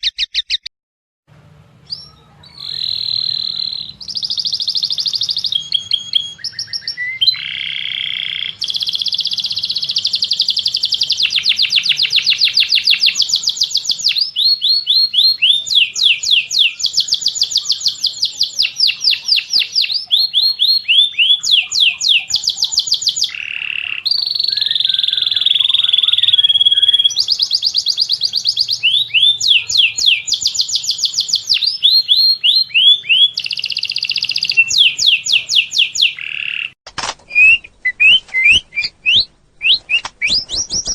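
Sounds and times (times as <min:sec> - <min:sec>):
songbird trilling: 0:01.8 - 0:40.9.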